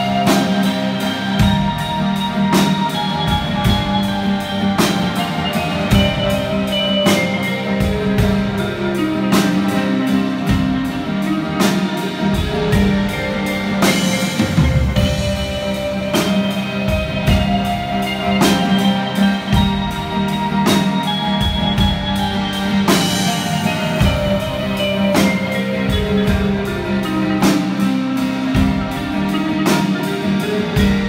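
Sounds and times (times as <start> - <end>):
drums with heavy hits: 0.0 - 31.0.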